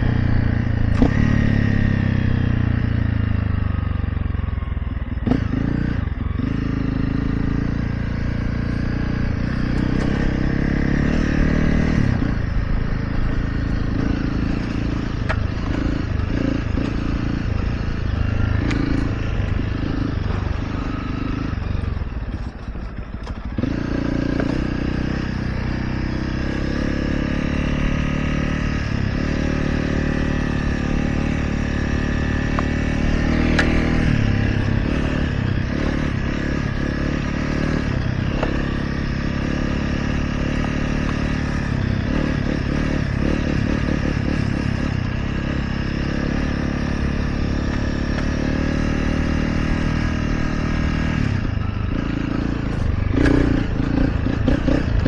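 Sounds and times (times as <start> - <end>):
dirt bike motor running: 5.0 - 55.0.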